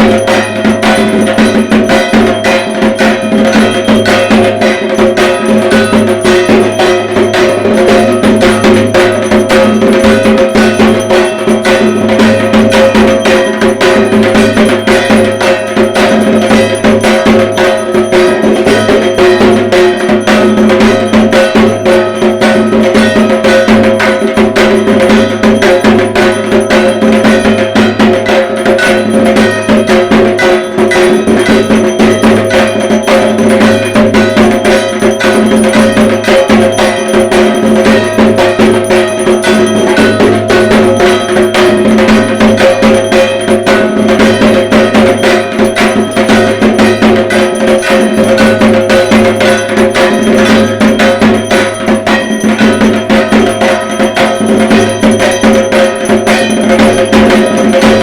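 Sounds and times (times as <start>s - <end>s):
barrel drum beaten with sticks: 0.0s - 58.0s
metal percussion clanging: 0.0s - 58.0s.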